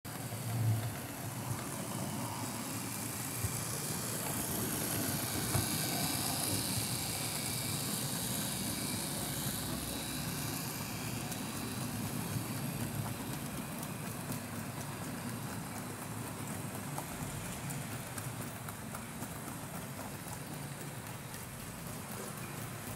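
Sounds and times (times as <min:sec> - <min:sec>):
model train motor whirring: 0:00.1 - 0:22.9.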